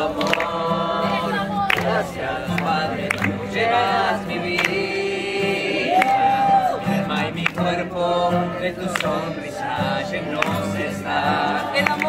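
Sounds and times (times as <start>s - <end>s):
group of men and women singing: 0.0s - 12.0s
strummed acoustic guitar: 0.0s - 12.0s.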